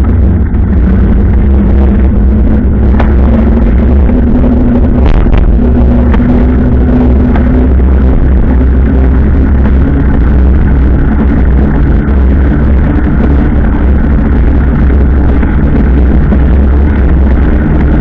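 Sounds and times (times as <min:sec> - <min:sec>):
faint engine tones: 0:00.0 - 0:18.0
moving vehicle rumble: 0:00.0 - 0:18.0.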